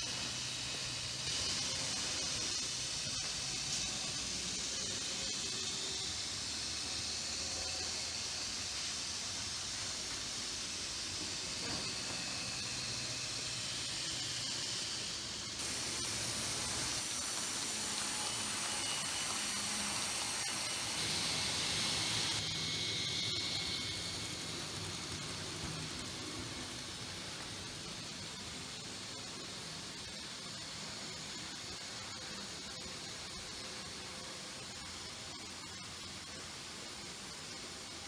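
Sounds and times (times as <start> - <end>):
model trains whining: 0.0 - 38.0
steady hiss: 0.0 - 38.0.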